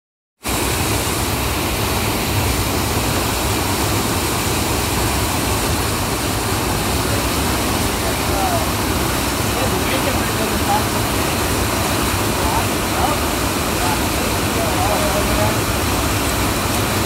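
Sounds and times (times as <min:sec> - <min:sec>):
river rushing: 0:00.4 - 0:17.0.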